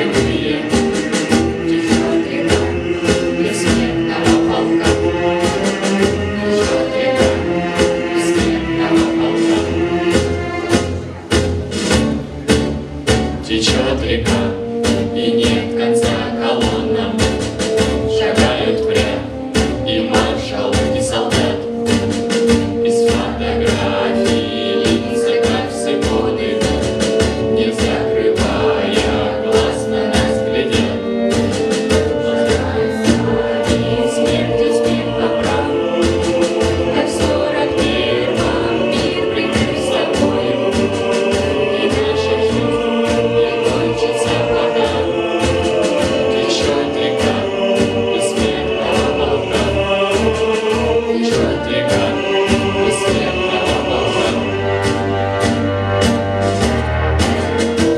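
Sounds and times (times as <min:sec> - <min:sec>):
choir singing: 0:00.0 - 0:57.9
instrumental accompaniment with beat: 0:00.0 - 0:57.9.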